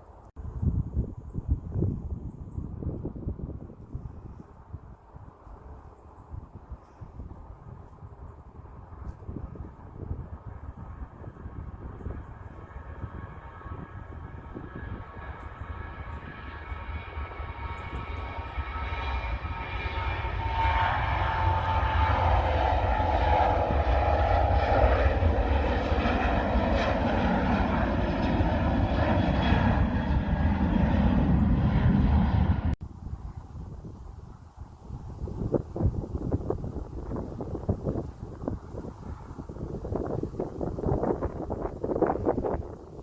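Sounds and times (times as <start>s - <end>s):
jet airliner engine whine: 6.4s - 43.0s
jet engine deep rumble: 6.4s - 43.0s.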